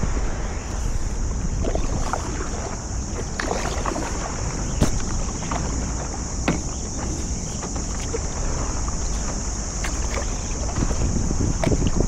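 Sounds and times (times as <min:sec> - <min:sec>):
paddle splashing in water: 0:00.0 - 0:12.0
wind on microphone: 0:00.0 - 0:12.0.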